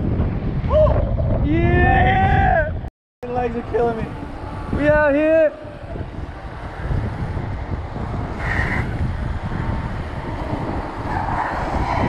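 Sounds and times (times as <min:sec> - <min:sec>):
bike tyre rumble: 0:00.0 - 0:12.0
wind buffeting microphone: 0:00.0 - 0:12.0.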